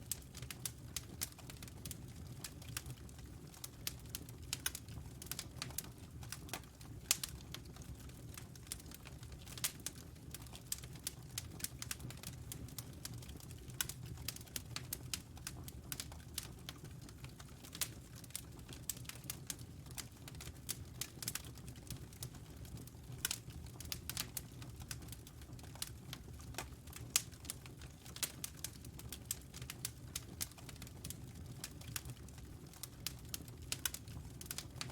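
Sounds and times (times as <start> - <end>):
low rumble of flames: 0.0 - 34.9
wood fire crackling: 0.0 - 34.9.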